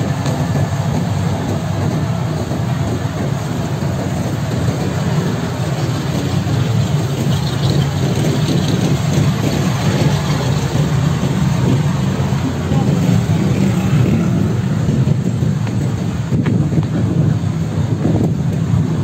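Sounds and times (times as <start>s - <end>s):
city street rumble: 0.0s - 19.0s.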